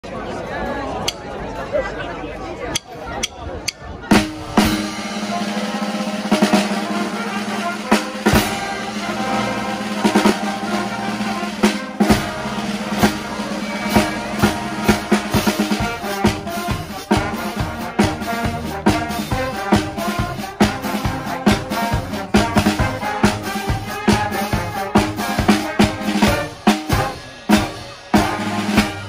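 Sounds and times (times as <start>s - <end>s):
saxophones and brass playing: 4.1s - 29.0s
snare drum: 4.1s - 29.0s.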